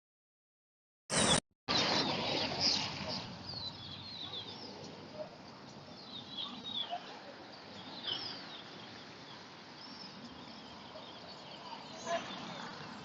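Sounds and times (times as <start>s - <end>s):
birds chirping: 1.1s - 13.0s.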